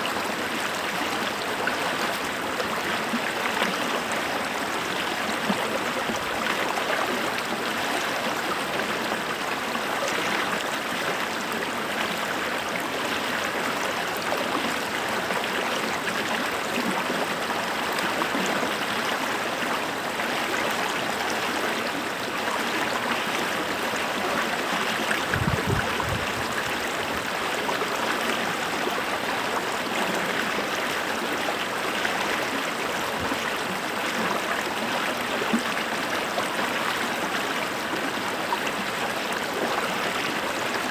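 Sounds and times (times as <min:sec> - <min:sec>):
stream rushing: 0:00.1 - 0:40.9.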